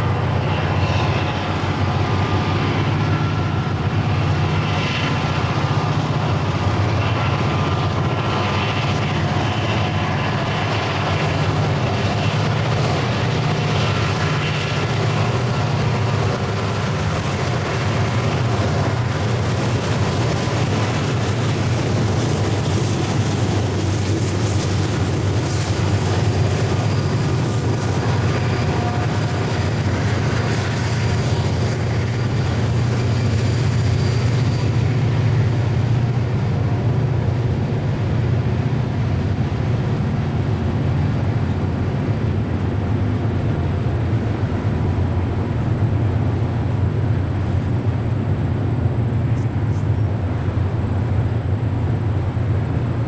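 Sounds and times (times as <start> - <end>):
diesel locomotives working hard: 0.0 - 53.0
freight cars rolling by: 0.0 - 53.0.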